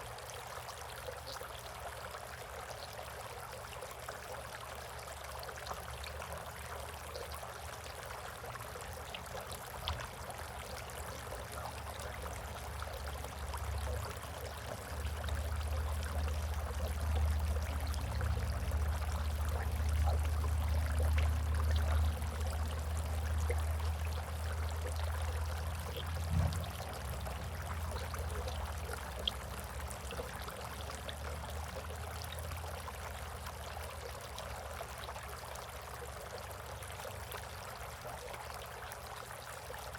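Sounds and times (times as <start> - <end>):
water trickling in a bird bath: 0.0 - 39.9.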